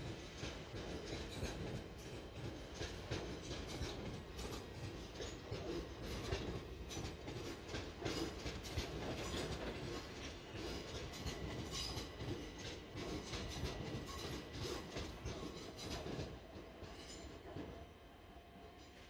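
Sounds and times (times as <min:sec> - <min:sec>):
train low rumble: 0:00.0 - 0:19.0
wheels clicking over rail joints: 0:00.4 - 0:17.8.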